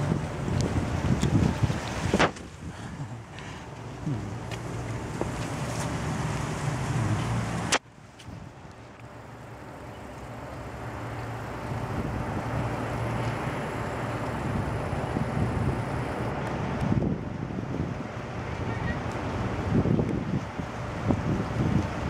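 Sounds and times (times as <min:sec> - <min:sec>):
outdoor background rumble: 0:00.0 - 0:22.0.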